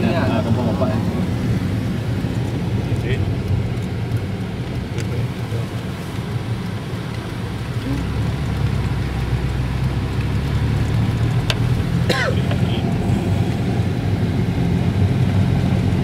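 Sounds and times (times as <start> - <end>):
road hiss: 0.0 - 15.6
car engine hum: 0.0 - 16.0.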